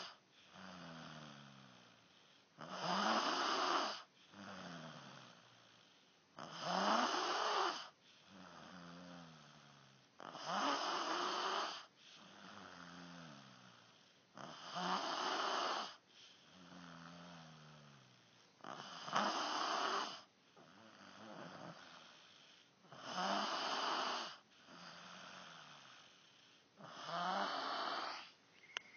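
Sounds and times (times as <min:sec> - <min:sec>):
loud rasping snores: 0:00.0 - 0:02.0, 0:02.6 - 0:05.8, 0:06.4 - 0:28.3.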